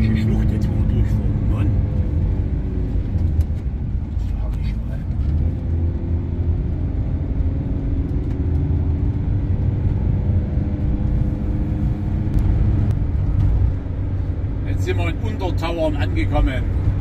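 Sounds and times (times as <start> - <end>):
motorhome engine drone: 0.0 - 17.0.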